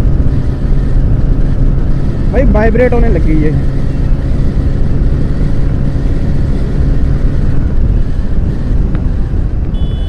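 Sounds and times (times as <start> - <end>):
motorcycle engine hum: 0.0 - 10.0
wind rumble on microphone: 0.0 - 10.0.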